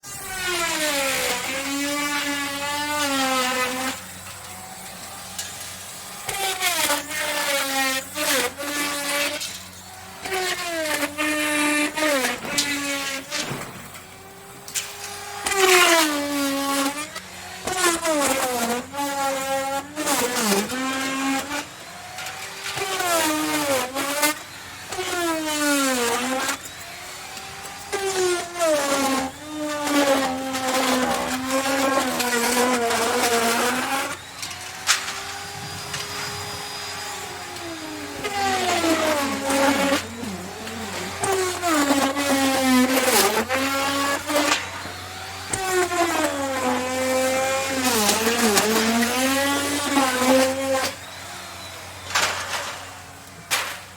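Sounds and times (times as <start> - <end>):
electric router cutting wood: 0.0 - 53.9.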